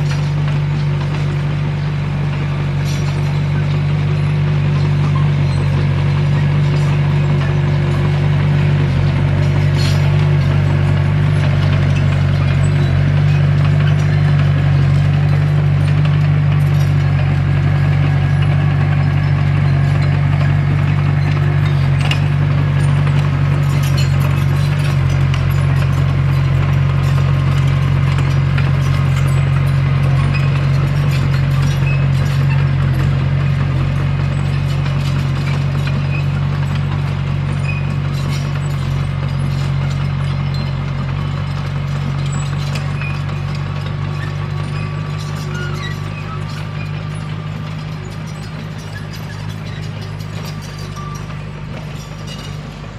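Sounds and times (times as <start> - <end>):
bulldozer diesel engine running: 0.0 - 52.9
steel tracks clacking: 0.0 - 52.9.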